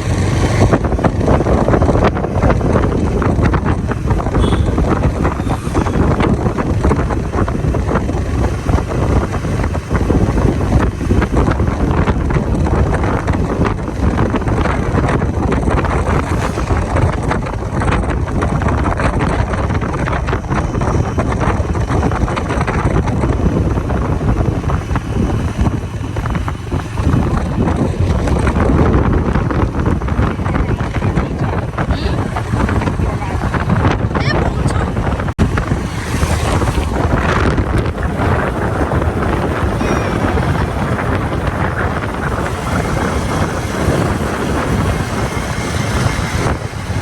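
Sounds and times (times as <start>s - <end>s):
moving vehicle road noise: 0.0s - 47.0s
wind buffeting microphone: 0.0s - 47.0s.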